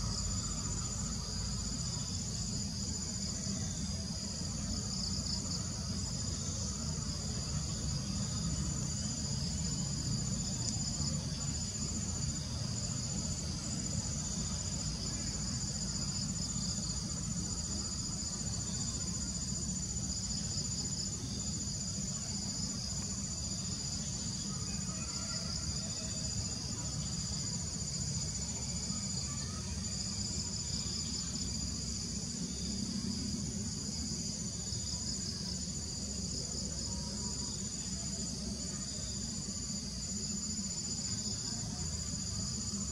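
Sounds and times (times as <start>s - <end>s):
insect high-pitched whine: 0.0s - 42.9s.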